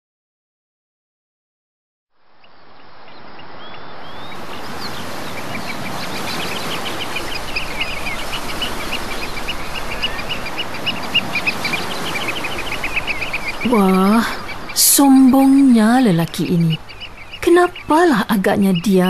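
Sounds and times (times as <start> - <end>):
small birds chirping: 2.4 - 19.0.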